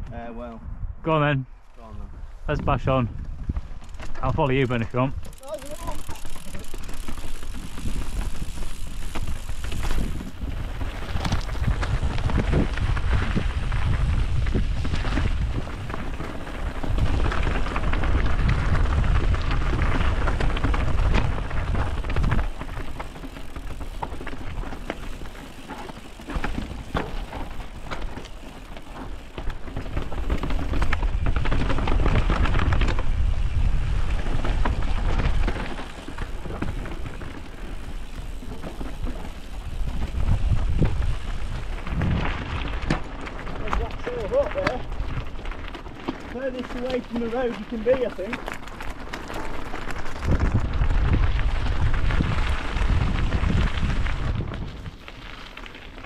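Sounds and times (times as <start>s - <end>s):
wind buffeting microphone: 0.0s - 55.4s
bike rattling and knocking: 3.2s - 56.0s
tyres crunching over stones: 3.5s - 56.0s.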